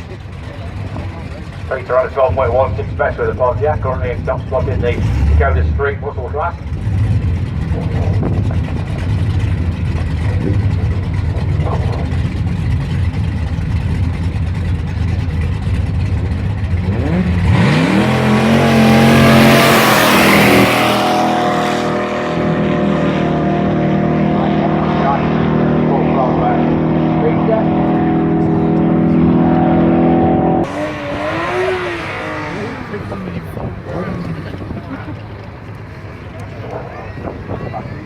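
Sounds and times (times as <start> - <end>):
drag race car engine revving: 0.0 - 37.9.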